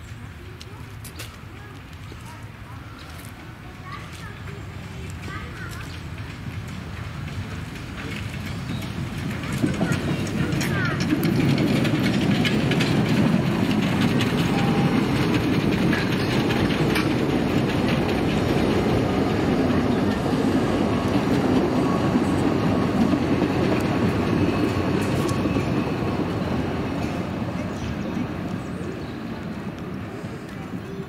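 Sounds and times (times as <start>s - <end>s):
train rumbling: 0.0s - 31.0s
wheels clicking over rail joints: 0.0s - 31.0s.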